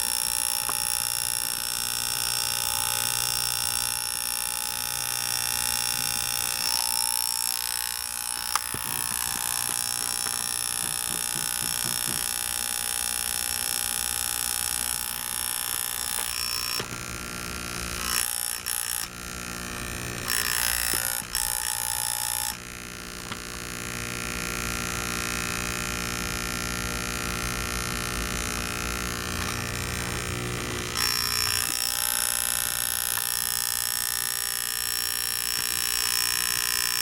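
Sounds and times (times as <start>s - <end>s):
electric air pump humming: 0.0s - 37.0s.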